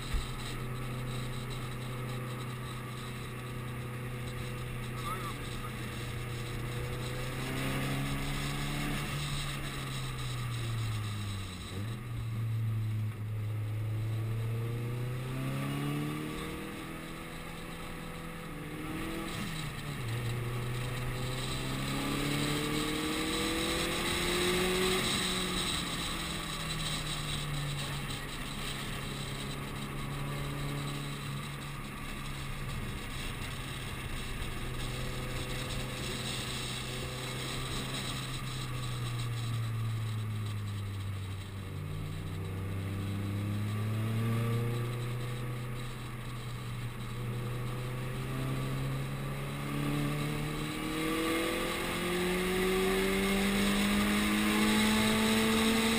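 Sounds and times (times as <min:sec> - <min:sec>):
car engine revving: 0:00.0 - 0:55.9
tyre and road noise hiss: 0:00.0 - 0:55.9.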